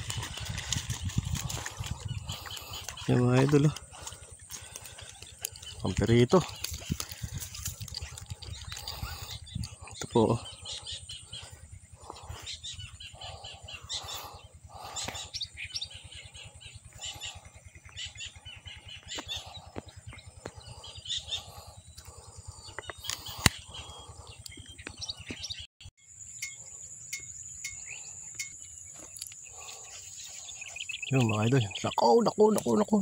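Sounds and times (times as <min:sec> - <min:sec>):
birds chirping: 0:00.0 - 0:33.0
high insect hum: 0:00.0 - 0:33.0.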